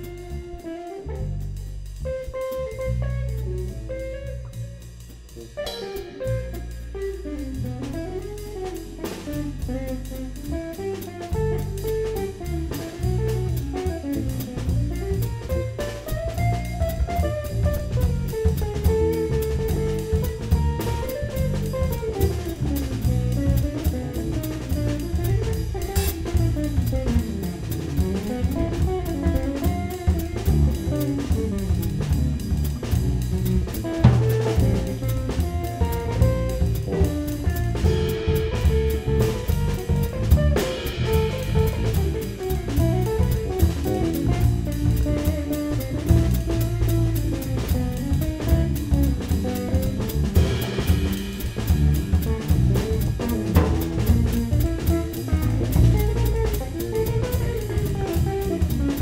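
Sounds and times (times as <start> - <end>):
drum kit: 0.0 - 59.0
electric bass: 0.0 - 59.0.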